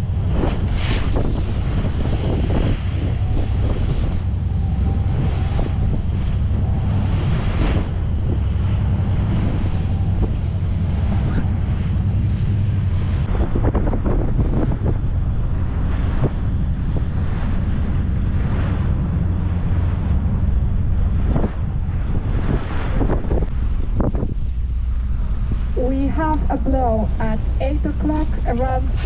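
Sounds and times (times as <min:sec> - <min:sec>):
sea washing around boat: 0:00.0 - 0:29.0
steady low rumble: 0:00.0 - 0:29.0
wind buffeting microphone: 0:00.0 - 0:29.0.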